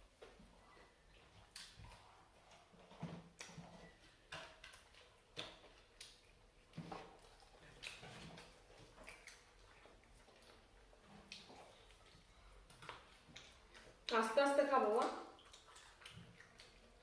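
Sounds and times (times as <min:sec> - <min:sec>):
chewing clicks and smacks: 0:00.2 - 0:17.0.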